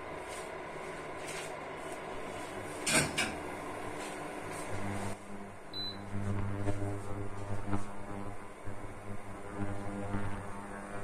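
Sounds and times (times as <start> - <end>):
induction cooktop humming: 0.0 - 11.0.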